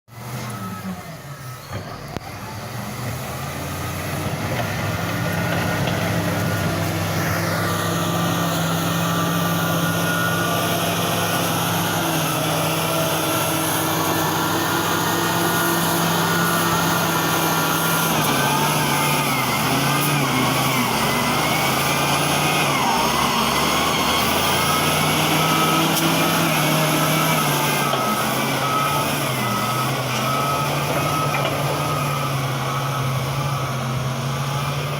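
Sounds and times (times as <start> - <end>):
diesel engine droning under load: 0.1 - 34.9.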